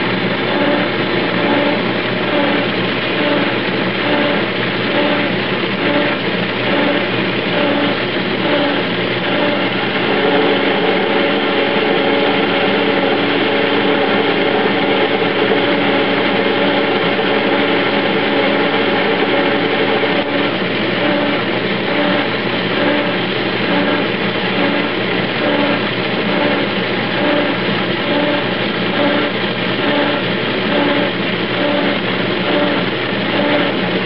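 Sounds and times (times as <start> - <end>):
metal lathe mechanical drone: 0.0 - 34.0
pulsing tone: 0.4 - 13.1, 19.2 - 33.8.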